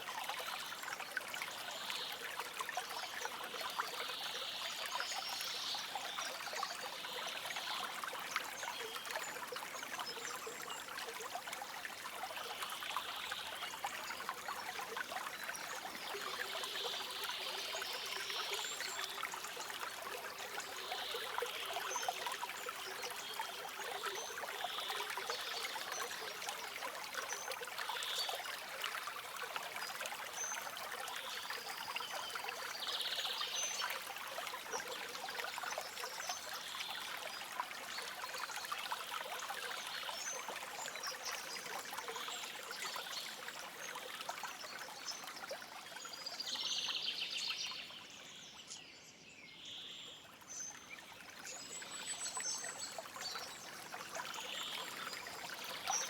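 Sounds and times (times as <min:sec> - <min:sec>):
stream trickling and splashing: 0:00.0 - 0:56.0.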